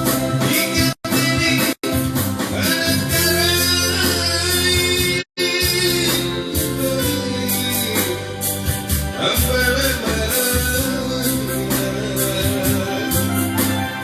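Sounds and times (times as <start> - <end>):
music with beat guitar and singing: 0.0 - 14.0.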